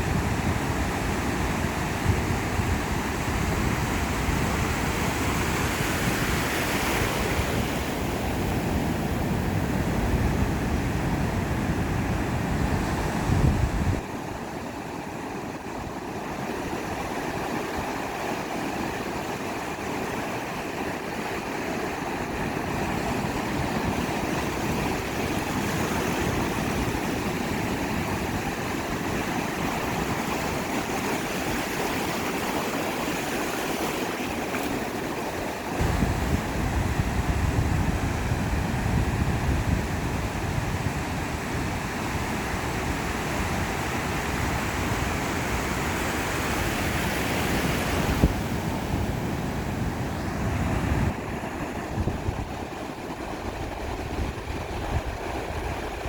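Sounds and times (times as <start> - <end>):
surf washing onto beach: 0.0 - 56.0.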